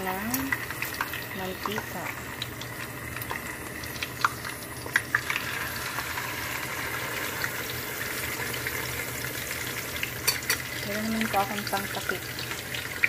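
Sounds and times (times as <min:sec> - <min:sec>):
fish sizzling in hot oil: 0:00.0 - 0:13.0
oil popping and crackling: 0:00.0 - 0:13.0.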